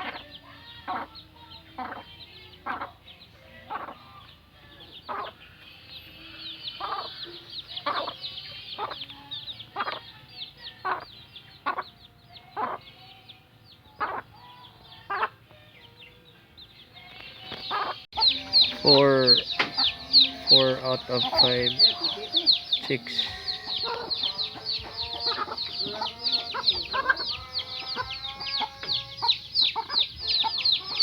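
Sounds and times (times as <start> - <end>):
hen clucking: 0.0 - 13.0, 13.8 - 15.5, 17.2 - 31.0
chicks peeping: 0.0 - 31.0.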